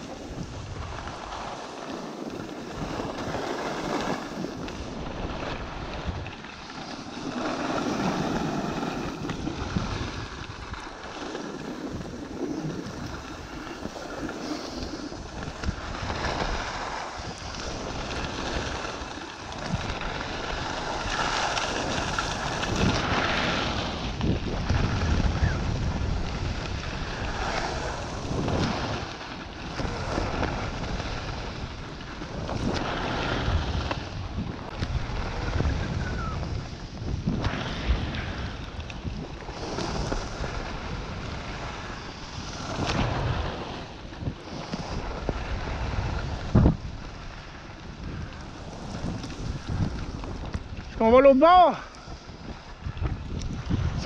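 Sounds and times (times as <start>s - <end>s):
skis sliding over snow: 0.0s - 54.0s
wind rushing over microphone: 0.0s - 54.0s.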